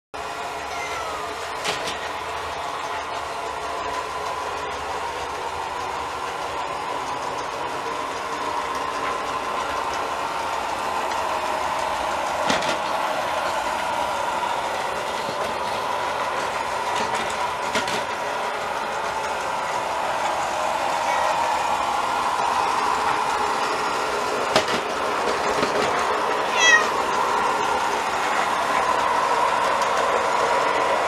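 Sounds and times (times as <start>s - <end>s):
robot vacuum whirring hum: 0.2s - 31.0s.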